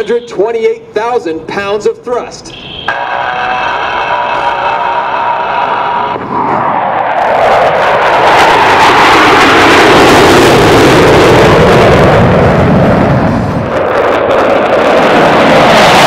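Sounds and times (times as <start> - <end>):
jet roar passing overhead: 2.3 - 16.0.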